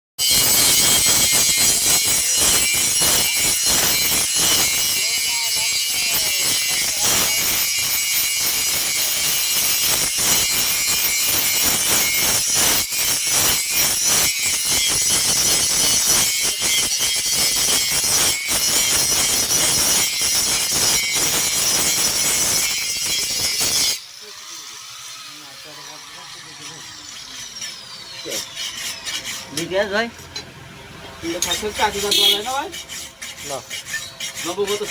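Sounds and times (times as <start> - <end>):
rasping and scraping metalwork: 0.2 - 34.9.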